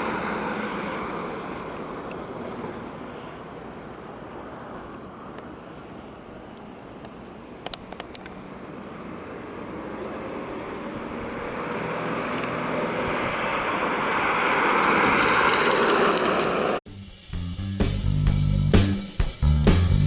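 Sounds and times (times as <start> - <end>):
car engine and tyre noise: 0.0 - 16.8.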